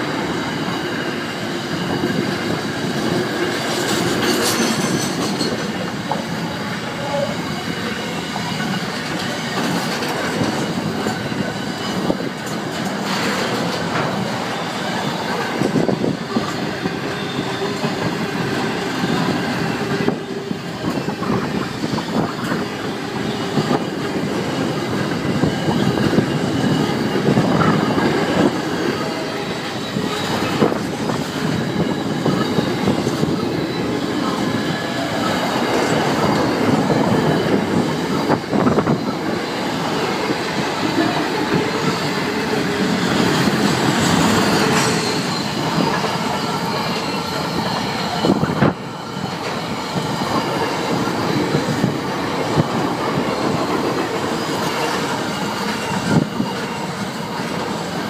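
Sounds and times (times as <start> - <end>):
train wheels rumbling on rail: 0.0 - 58.0
wheels squealing: 0.0 - 58.0.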